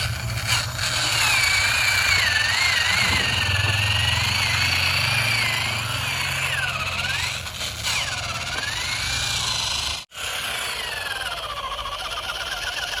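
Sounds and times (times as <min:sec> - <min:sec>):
toy vehicle whine: 0:00.0 - 0:13.0.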